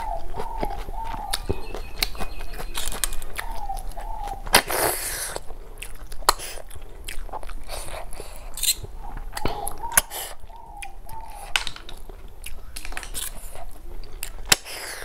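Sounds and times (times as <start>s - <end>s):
wet chewing with lip smacks: 0.0s - 15.0s.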